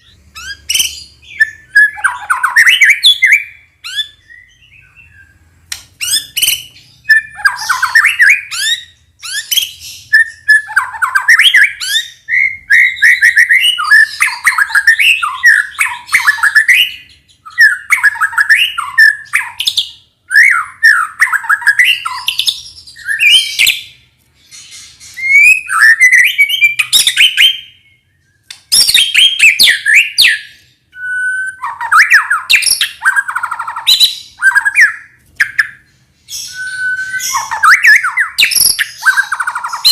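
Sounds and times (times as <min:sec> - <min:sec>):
songbird singing rapid varied song: 0:00.0 - 0:39.9.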